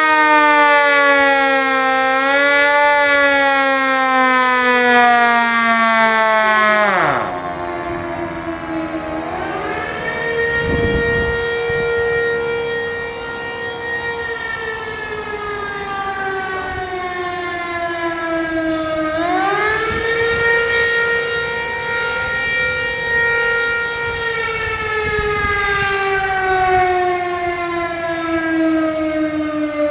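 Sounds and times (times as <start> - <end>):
air-raid siren wailing: 0.0 - 29.9.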